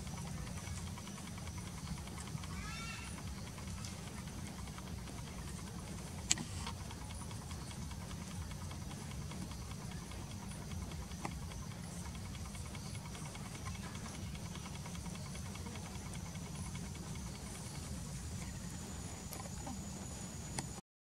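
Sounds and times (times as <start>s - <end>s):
low outdoor rumble: 0.0s - 20.8s.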